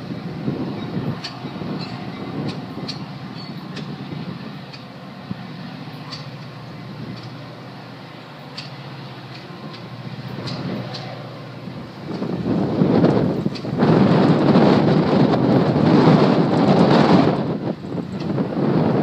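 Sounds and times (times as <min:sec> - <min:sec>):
train rumbling over rails: 0:00.0 - 0:19.0
wheels clicking on track: 0:00.6 - 0:19.0.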